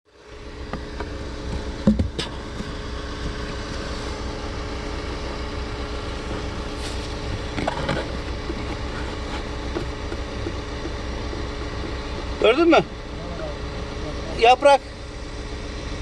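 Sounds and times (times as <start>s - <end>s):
car blower fan humming: 0.1s - 16.0s.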